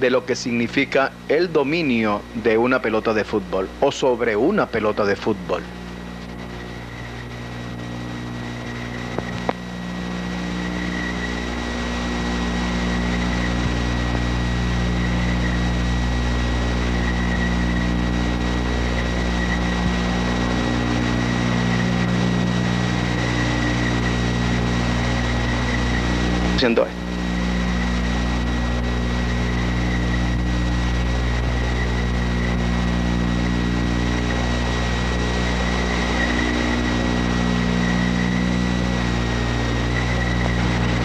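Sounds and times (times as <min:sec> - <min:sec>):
low hum: 0:00.0 - 0:41.0
thin high whine and hiss: 0:00.0 - 0:41.0.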